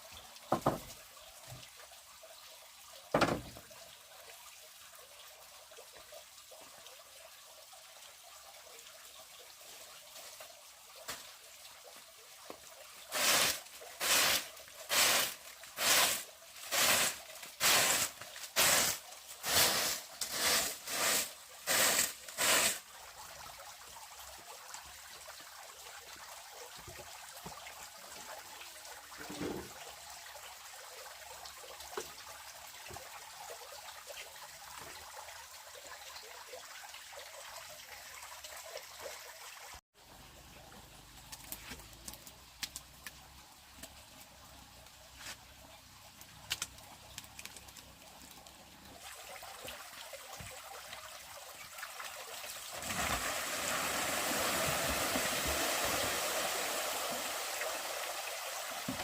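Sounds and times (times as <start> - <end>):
running water trickling and splashing: 0.0 - 59.0.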